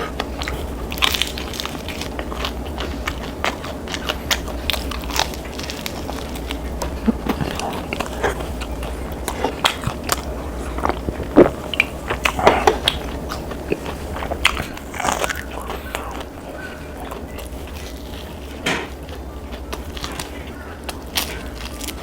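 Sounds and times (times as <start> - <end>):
crunching and chewing food: 0.0 - 22.0.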